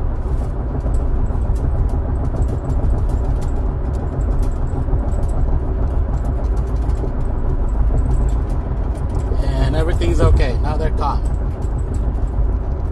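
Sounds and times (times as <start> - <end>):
car road and engine rumble: 0.0 - 12.9.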